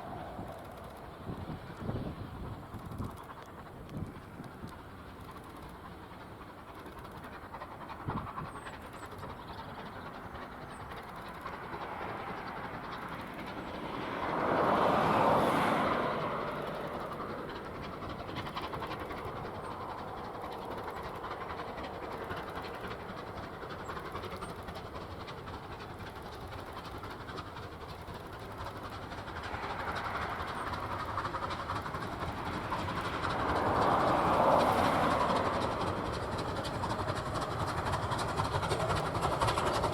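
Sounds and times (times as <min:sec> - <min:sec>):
train running on rails: 0:00.0 - 0:39.9.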